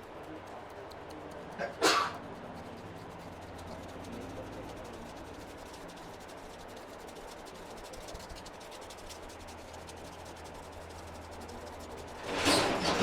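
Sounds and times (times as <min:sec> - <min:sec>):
faint low hum: 0:00.0 - 0:12.2
massage strokes rubbing skin: 0:00.0 - 0:12.3.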